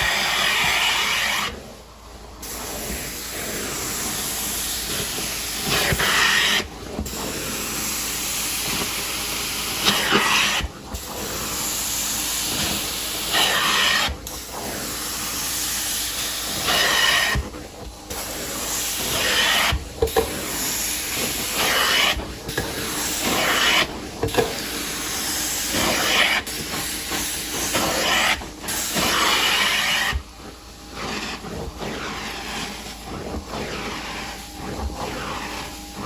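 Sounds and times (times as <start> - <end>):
carpet cleaning wand hissing: 0.0 - 36.0.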